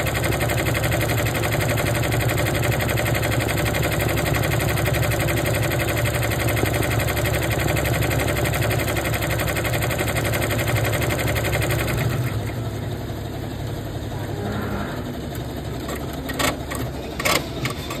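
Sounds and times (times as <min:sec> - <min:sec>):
embroidery machine stitching: 0:00.0 - 0:14.4, 0:15.1 - 0:18.0.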